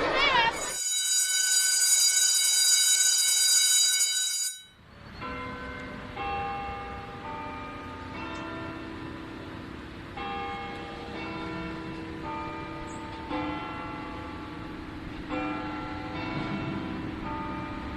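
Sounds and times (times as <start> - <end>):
shrill bell ringing continuously: 0.6 - 9.2, 10.2 - 17.9.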